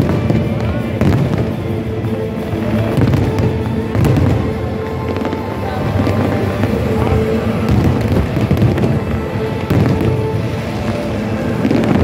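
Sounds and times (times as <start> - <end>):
fireworks booming and crackling: 0.0 - 12.0
music playing: 0.0 - 12.0.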